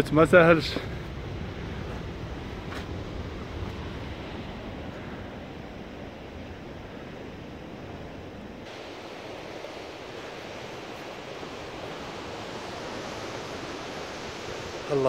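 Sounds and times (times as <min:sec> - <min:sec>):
sea surf rushing: 0:00.0 - 0:15.0
wind on microphone: 0:00.0 - 0:15.0.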